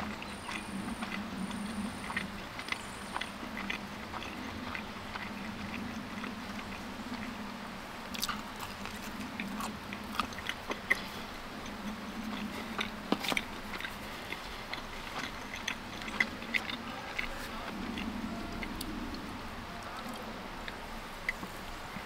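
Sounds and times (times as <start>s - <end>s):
chewing pizza: 0.0s - 22.0s
mouth clicks and bites: 0.0s - 22.0s.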